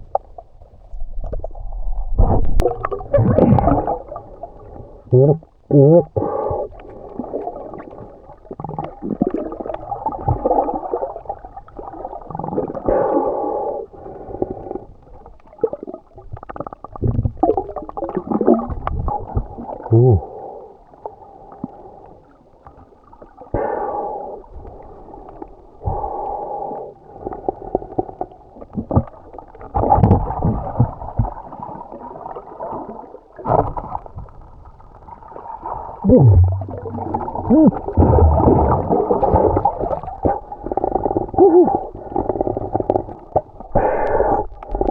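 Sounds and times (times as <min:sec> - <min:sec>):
muffled water sloshing: 0:00.0 - 0:13.1, 0:13.9 - 0:23.6, 0:24.3 - 0:44.9.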